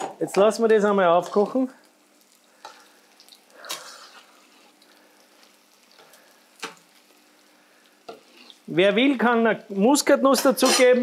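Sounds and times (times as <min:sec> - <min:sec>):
faint steady hum: 0:00.2 - 0:10.2.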